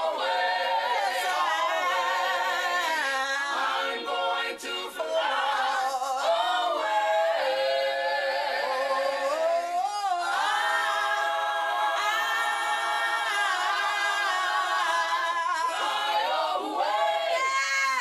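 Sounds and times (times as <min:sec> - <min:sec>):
vocal group singing a cappella: 0:00.0 - 0:18.0.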